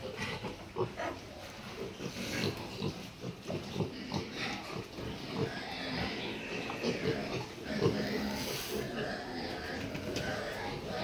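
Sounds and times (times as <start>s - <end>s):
pig grunting: 1.8s - 11.0s.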